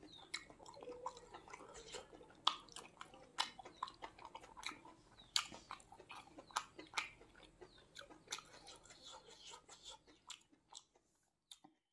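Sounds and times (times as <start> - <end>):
person chewing and lip-smacking: 0.0 - 11.9.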